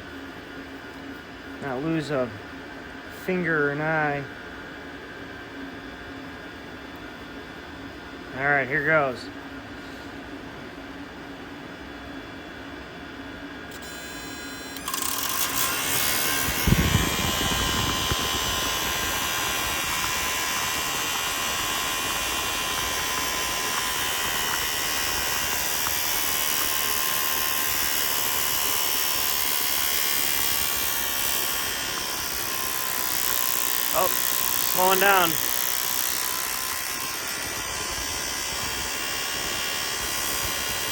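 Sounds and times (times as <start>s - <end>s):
blower fan motor whine: 0.0s - 40.9s.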